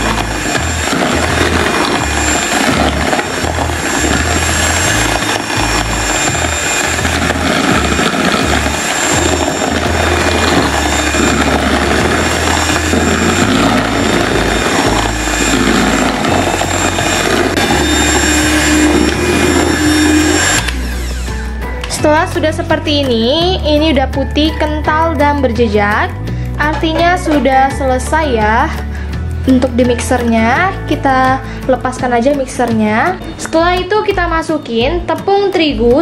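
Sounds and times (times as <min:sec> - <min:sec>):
electric hand mixer whipping batter: 0:00.0 - 0:35.0.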